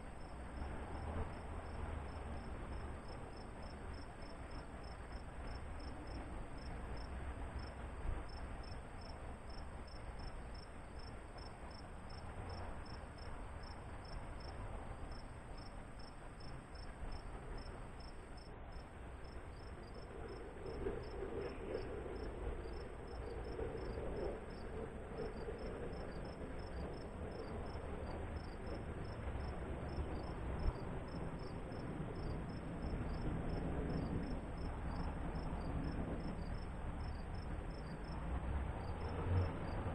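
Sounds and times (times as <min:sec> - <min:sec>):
cricket chirping: 0:00.0 - 0:38.2, 0:38.8 - 0:39.9
low outdoor rumble: 0:00.0 - 0:39.9.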